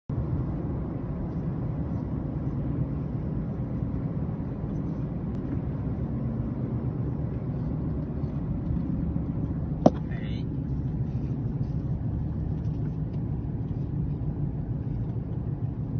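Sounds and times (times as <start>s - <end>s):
vehicle engine and road noise: 0.1s - 15.9s.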